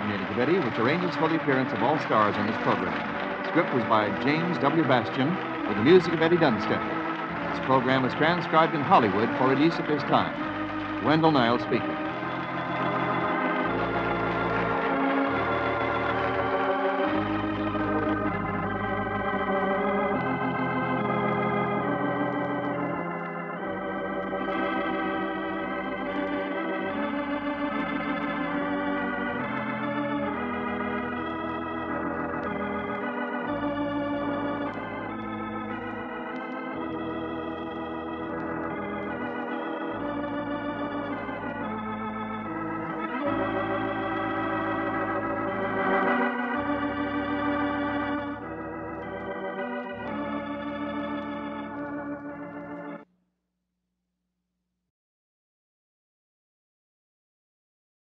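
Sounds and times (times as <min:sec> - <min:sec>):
organ playing sustained chords: 0:00.0 - 0:53.1.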